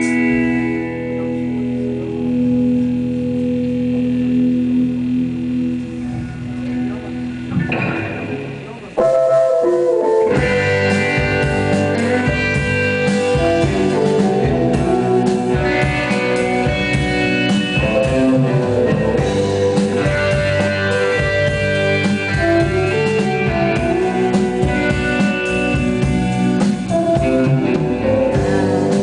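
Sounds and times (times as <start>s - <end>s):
drum kit: 0.0s - 29.0s
electric guitar: 0.0s - 29.0s
rock band playing: 0.0s - 29.0s.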